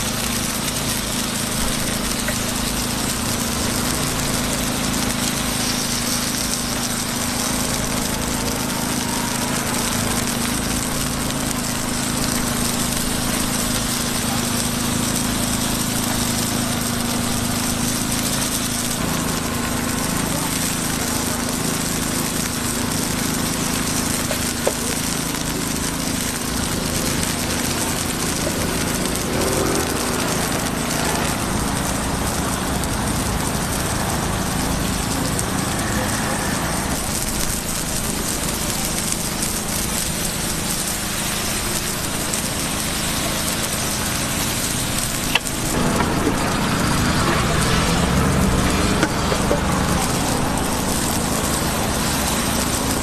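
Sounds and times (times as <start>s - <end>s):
constant hiss: 0.0s - 53.0s
small engine humming: 0.0s - 53.0s.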